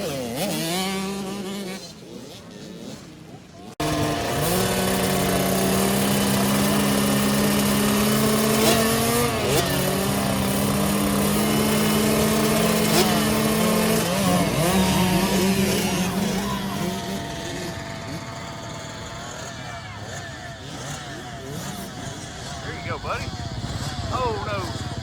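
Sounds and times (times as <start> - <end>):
dirt bike engines running: 0.0 - 25.0.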